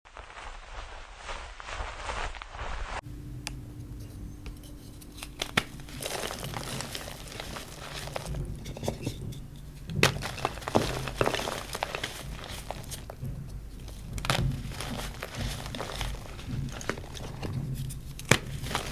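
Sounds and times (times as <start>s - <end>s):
chalk crunching and snapping by hand: 0.1s - 18.9s.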